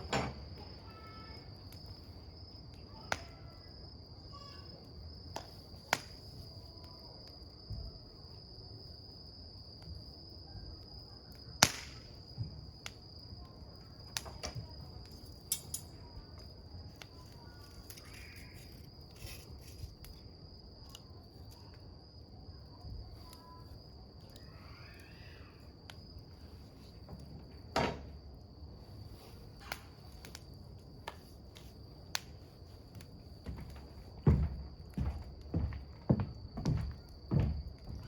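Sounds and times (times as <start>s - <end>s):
wood fire crackling: 0.0s - 8.4s, 10.7s - 38.0s
crickets chirping: 0.0s - 38.0s.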